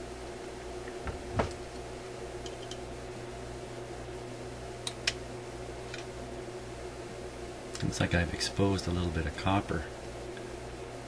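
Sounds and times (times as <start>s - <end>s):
steady shop hum: 0.0s - 11.0s.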